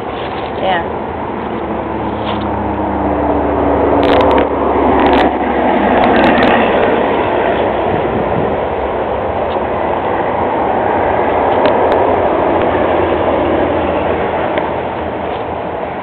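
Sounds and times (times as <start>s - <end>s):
passing vehicle rumble: 0.0s - 16.0s.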